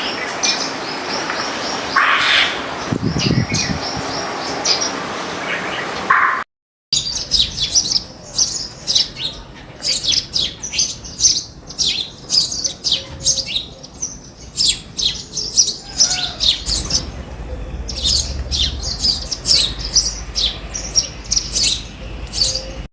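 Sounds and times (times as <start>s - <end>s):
small birds chirping: 0.0s - 5.9s, 7.0s - 22.9s.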